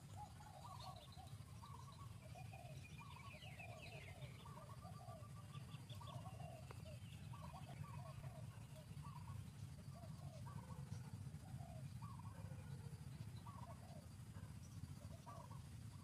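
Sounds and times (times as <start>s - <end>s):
low background rumble: 0.0s - 16.0s
short repeated bird calls: 0.0s - 16.0s.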